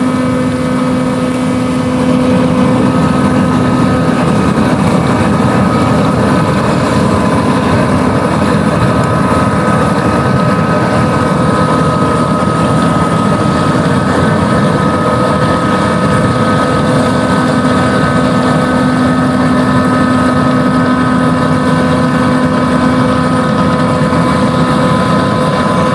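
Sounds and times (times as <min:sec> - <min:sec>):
harvesting machinery engine drone: 0:00.0 - 0:25.9
steady whining tones: 0:00.0 - 0:25.9.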